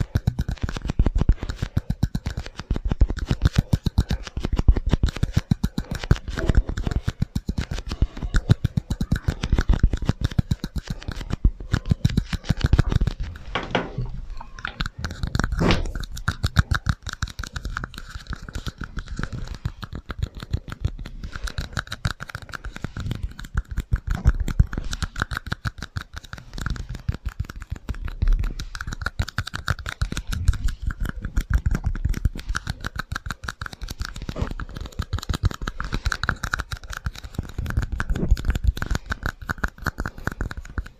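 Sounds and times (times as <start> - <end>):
rapid tapping and scratching: 0.0 - 40.9.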